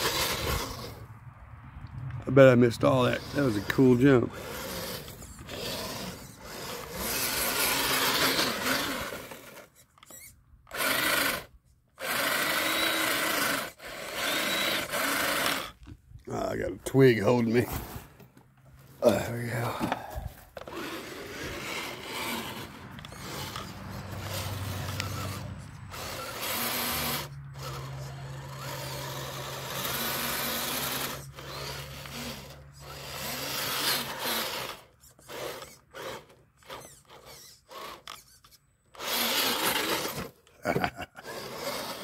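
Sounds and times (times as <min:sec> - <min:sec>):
electric motor whining: 0:00.0 - 0:01.1, 0:02.6 - 0:15.9, 0:19.6 - 0:40.4, 0:41.2 - 0:42.0
tyres spinning through dirt: 0:00.0 - 0:01.1, 0:02.4 - 0:15.8, 0:18.8 - 0:38.3, 0:39.0 - 0:42.0.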